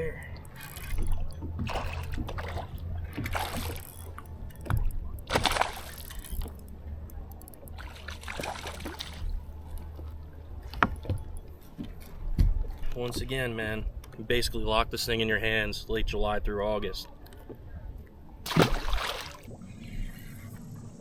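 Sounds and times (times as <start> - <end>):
water splashing and sloshing: 0.0 - 14.8, 17.0 - 21.0
steady low hum: 0.0 - 16.5, 17.1 - 21.0.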